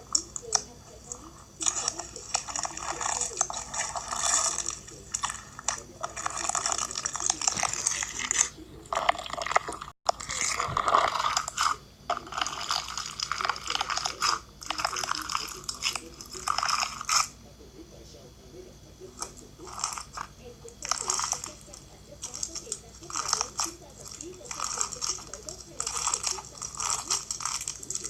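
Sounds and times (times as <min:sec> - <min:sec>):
bead slime crunching and crackling: 0:00.0 - 0:17.3, 0:19.2 - 0:28.0.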